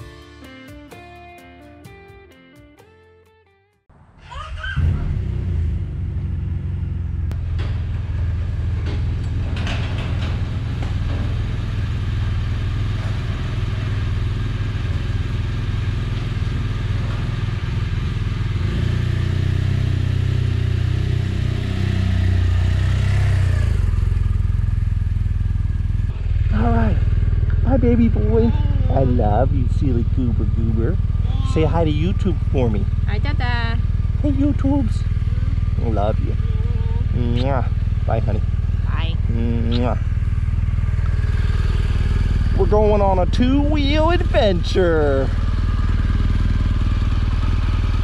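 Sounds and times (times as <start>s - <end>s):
motorcycle engine idling: 5.6s - 21.6s, 22.3s - 48.0s.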